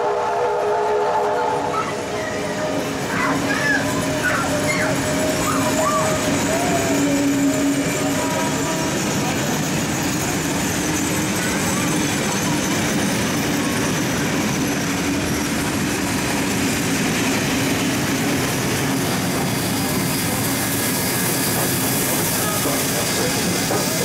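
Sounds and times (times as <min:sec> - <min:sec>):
steam locomotive passing: 0:00.0 - 0:24.0
train wheels rumbling on rails: 0:00.0 - 0:24.0.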